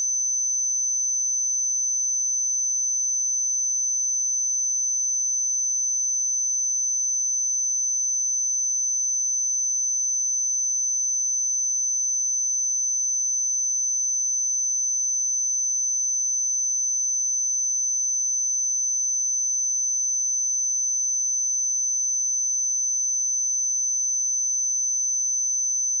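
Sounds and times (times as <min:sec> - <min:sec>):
high-pitched sine test tone: 0:00.0 - 0:26.0.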